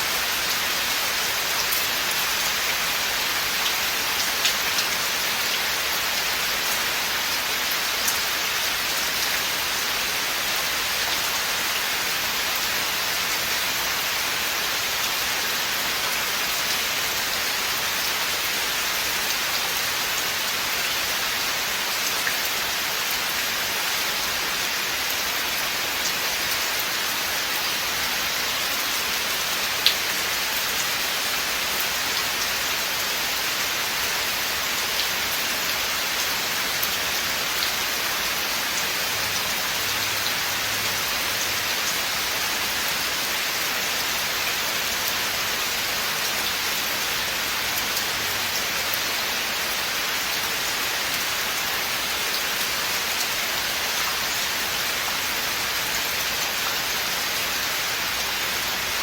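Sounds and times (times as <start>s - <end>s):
rain falling through forest: 0.0s - 59.0s.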